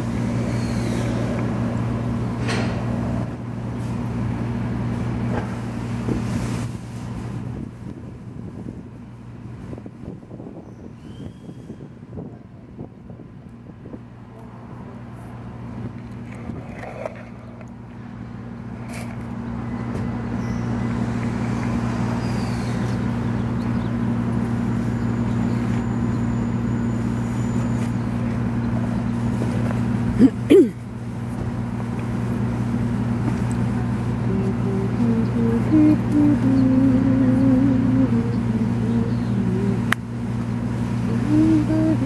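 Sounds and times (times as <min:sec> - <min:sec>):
vehicle engine running: 0:00.0 - 0:10.1, 0:13.6 - 0:42.0.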